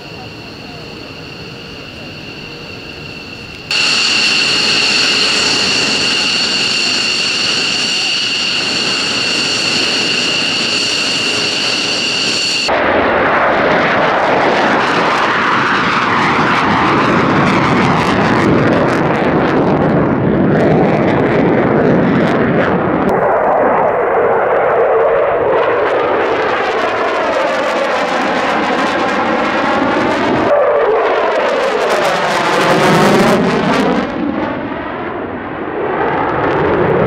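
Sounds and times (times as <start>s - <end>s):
jet engine whine on ground: 0.0s - 37.0s
jets roaring overhead: 0.0s - 37.0s.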